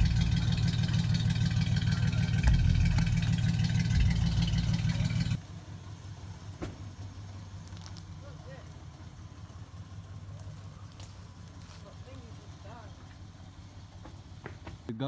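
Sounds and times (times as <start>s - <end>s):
pickup engine idling: 0.0s - 14.9s.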